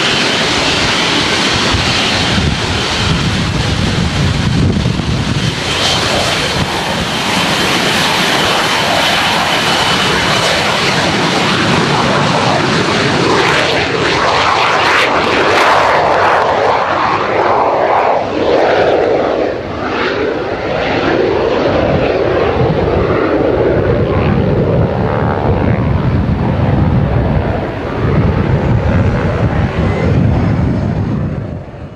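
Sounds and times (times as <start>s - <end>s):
jet engine rushing: 0.0s - 31.9s.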